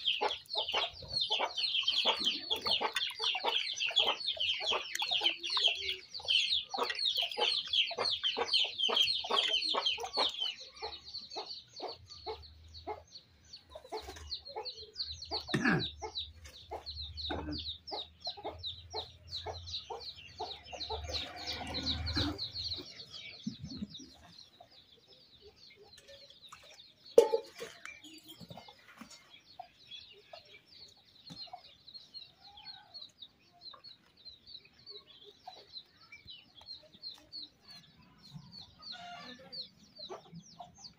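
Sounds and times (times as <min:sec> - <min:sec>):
chickens clucking: 0:00.0 - 0:40.9
small birds chirping: 0:00.0 - 0:40.9.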